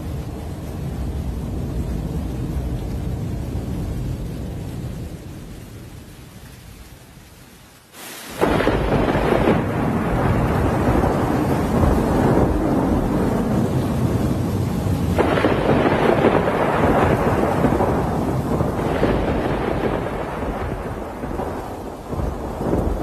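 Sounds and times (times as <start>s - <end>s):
deep thunder rumble: 0.0s - 6.1s, 8.4s - 23.0s
wind and rain rushing: 0.0s - 23.0s.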